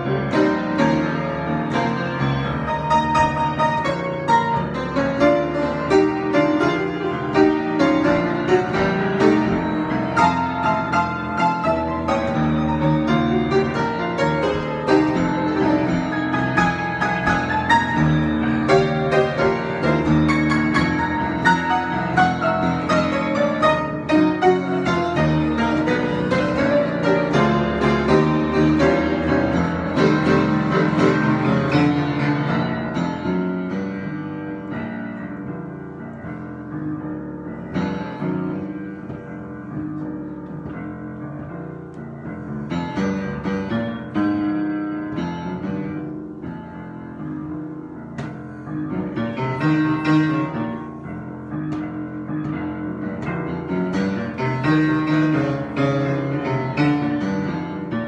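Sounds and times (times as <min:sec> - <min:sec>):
solo piano with dense chords: 0:00.0 - 0:58.0.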